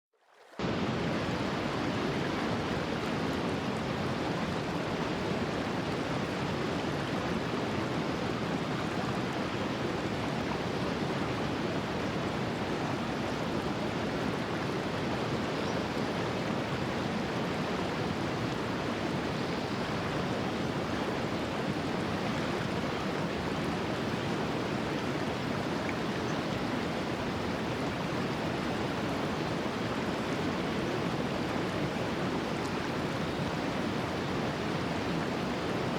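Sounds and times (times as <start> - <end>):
stream flowing: 0.2 - 35.9.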